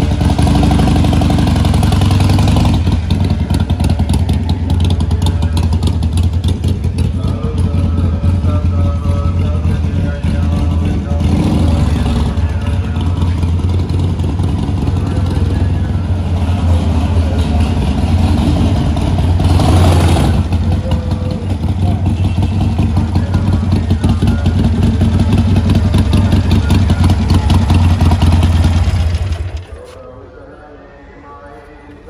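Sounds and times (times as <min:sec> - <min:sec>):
motorcycle engine running: 0:00.0 - 0:29.8.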